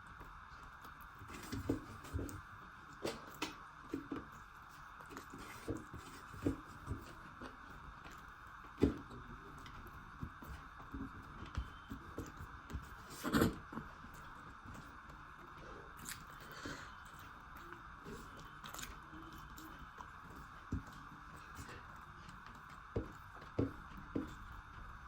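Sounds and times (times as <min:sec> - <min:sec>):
chewing and mouth noises: 0:03.0 - 0:25.0.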